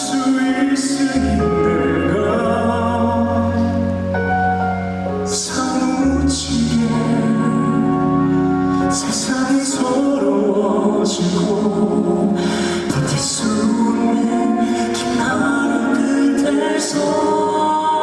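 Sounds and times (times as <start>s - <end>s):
man singing slow song: 0.0s - 4.2s, 5.2s - 18.0s
live band accompaniment: 0.0s - 18.0s.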